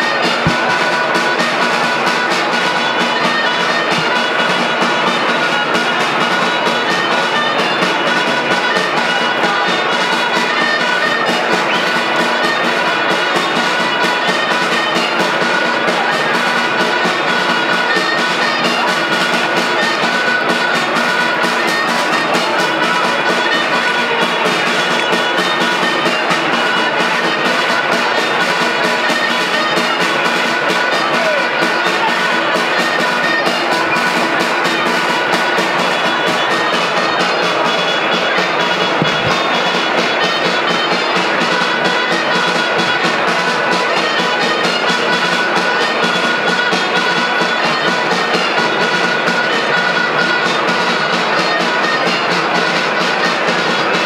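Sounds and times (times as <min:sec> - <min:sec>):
drum: 0:00.0 - 0:54.0.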